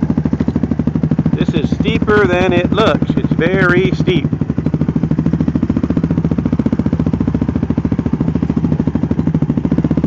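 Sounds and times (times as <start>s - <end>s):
quad engine running at low revs: 0.0s - 10.0s.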